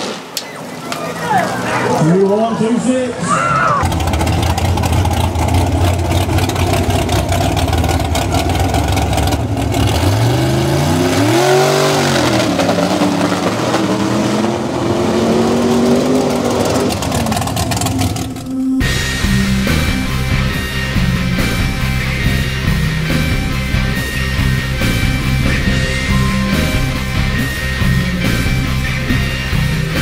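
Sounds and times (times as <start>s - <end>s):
truck engine revving hard: 3.7s - 30.0s.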